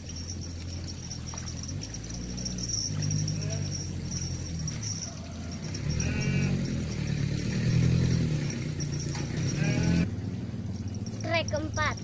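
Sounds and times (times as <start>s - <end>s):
insects chirping: 0.0s - 12.0s
small engine running: 0.0s - 12.0s.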